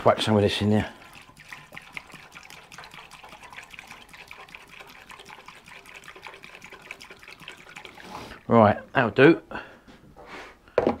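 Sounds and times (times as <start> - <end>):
petrol pouring through funnel: 0.1 - 9.0.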